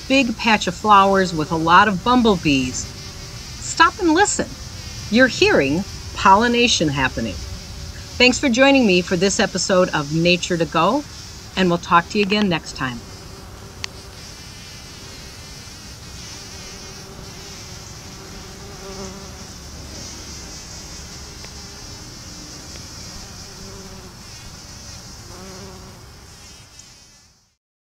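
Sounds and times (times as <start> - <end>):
bumblebees buzzing: 0.0 - 27.6
steady high hiss: 0.0 - 27.6.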